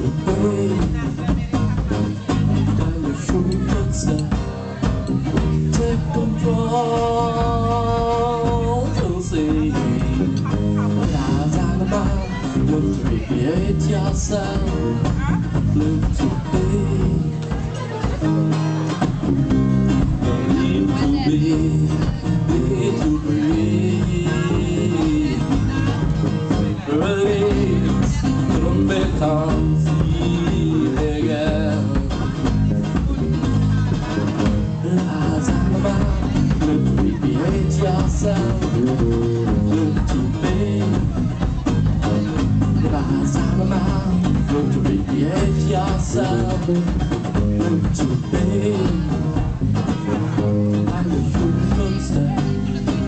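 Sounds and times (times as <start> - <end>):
bass guitar line: 0.0 - 53.0
live band playing instrumental: 0.0 - 53.0
strummed guitar: 0.0 - 53.0.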